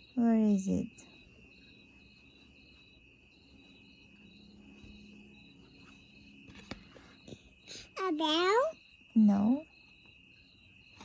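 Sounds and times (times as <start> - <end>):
insect chirping: 0.0 - 11.0
steady high tone: 0.0 - 11.0.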